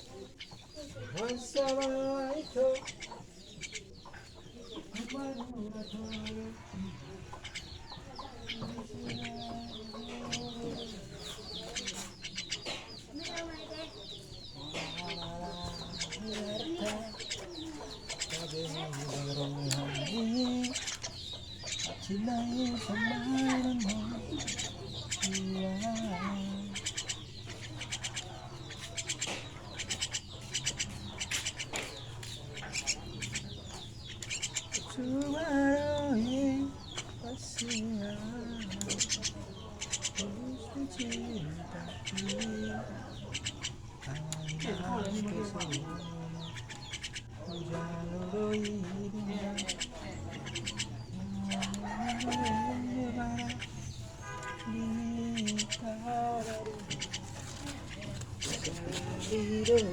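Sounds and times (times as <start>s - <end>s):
birds chirping: 0.0s - 59.9s
long steady bird call: 0.0s - 59.9s
young starlings chattering: 0.0s - 59.9s.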